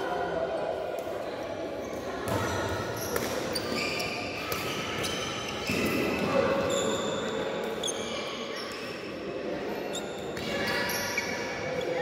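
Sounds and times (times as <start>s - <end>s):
shoes squeaking on court floor: 1.8s - 12.0s.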